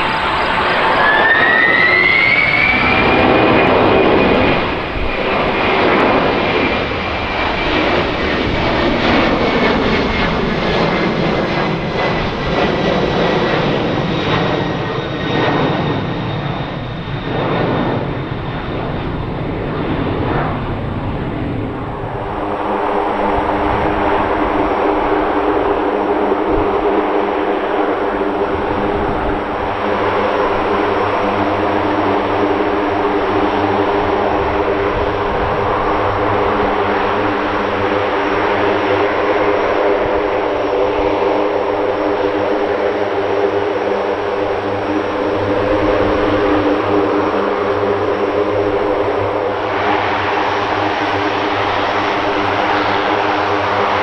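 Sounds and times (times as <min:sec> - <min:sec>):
jet engines passing overhead: 0:00.0 - 0:54.0
turboprop engines humming: 0:00.0 - 0:54.0.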